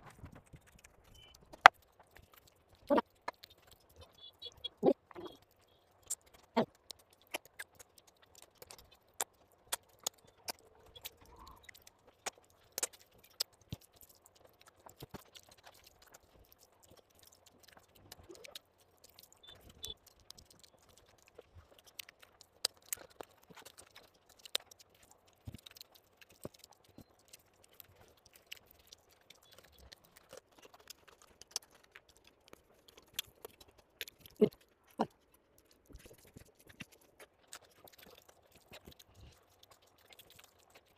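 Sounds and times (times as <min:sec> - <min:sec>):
person chewing with lip smacks: 0:00.0 - 0:40.9.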